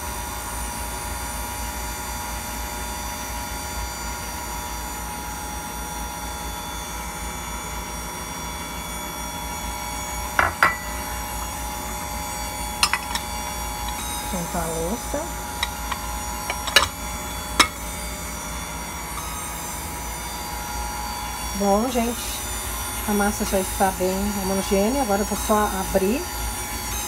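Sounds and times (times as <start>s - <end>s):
stand mixer motor hum: 0.2s - 27.0s.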